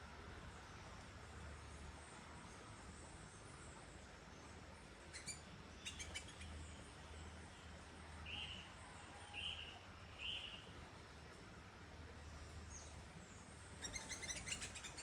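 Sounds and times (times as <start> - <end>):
low steady hum: 0.0 - 15.0
small birds calling faintly: 0.3 - 10.7, 12.2 - 15.0.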